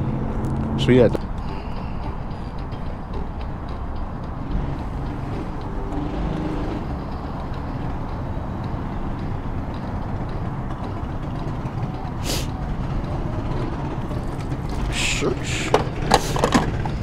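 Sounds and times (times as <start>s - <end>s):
motor traffic rumble: 0.0s - 17.0s.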